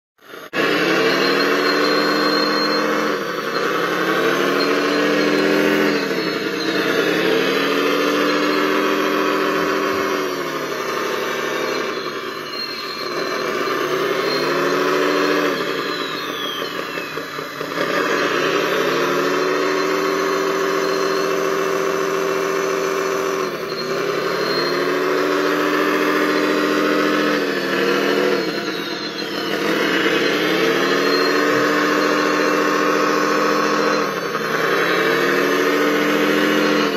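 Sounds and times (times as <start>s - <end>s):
model loader engine drone: 0.2s - 36.9s
faint high whine: 0.3s - 36.9s.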